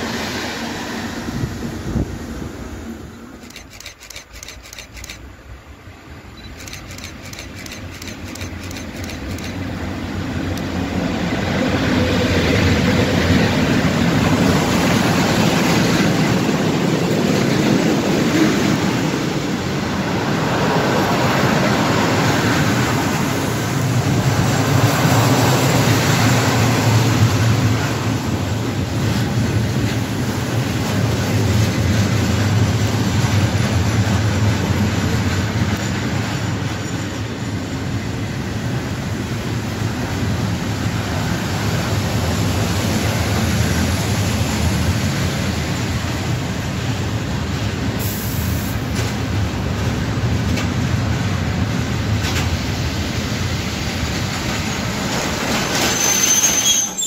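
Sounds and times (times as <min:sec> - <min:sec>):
electric locomotive: 0:00.0 - 0:57.0
wagons rumbling on rails: 0:00.0 - 0:57.0.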